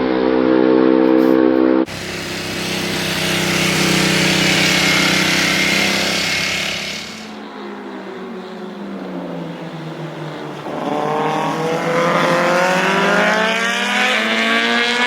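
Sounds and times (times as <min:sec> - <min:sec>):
motorcycle engine running: 0:01.9 - 0:14.9
motorcycle rushing past: 0:01.9 - 0:15.0.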